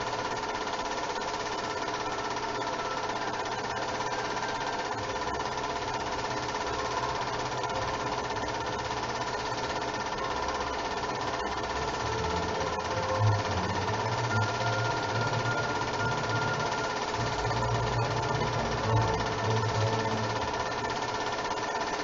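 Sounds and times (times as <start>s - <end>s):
film projector whirring: 0.0s - 22.0s
film ticking through projector: 0.0s - 22.0s.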